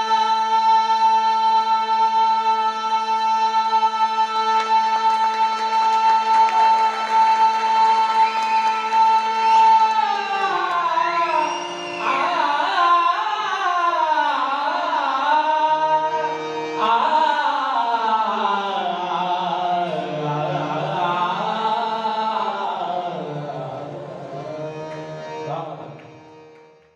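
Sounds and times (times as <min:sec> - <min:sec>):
man singing ornamented melody: 0:00.0 - 0:26.3
harmonium held tones: 0:00.0 - 0:26.9.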